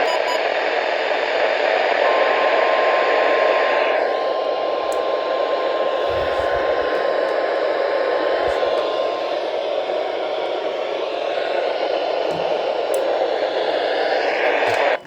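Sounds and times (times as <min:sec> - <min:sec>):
radio static hiss: 0:00.0 - 0:15.0
steady warning tone: 0:00.0 - 0:15.0.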